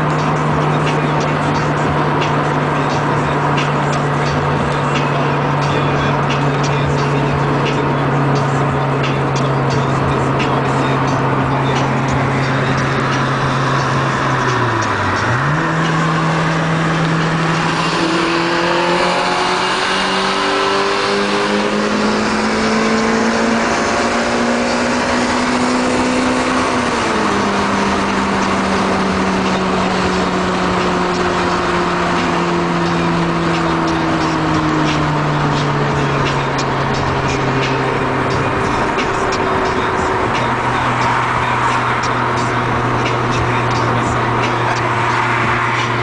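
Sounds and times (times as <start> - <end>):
car engine revving: 0.0 - 46.0
road and wind noise: 0.0 - 46.0.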